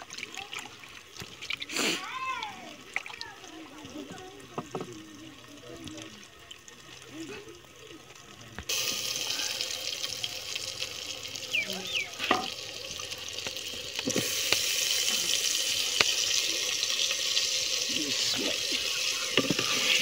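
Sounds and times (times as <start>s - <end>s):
oil sizzling in a clay pot: 3.7s - 20.0s.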